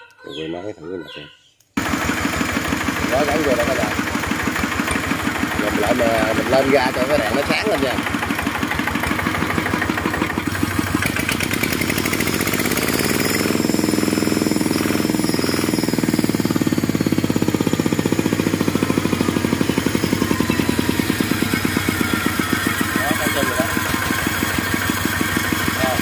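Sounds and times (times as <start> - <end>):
single-cylinder diesel engine running: 1.8 - 26.0.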